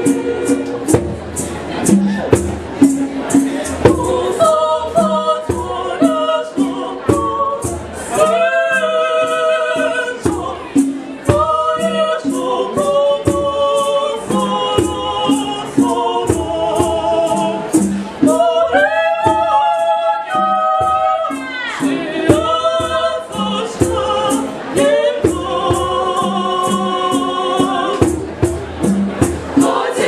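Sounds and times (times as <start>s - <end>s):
choir singing in parts: 0.0s - 30.0s.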